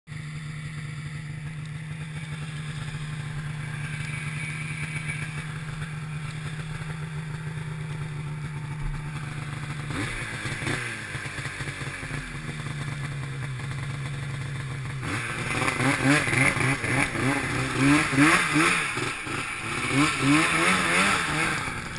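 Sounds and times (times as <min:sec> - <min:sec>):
snowmobile engine idling and revving: 0:00.1 - 0:21.9.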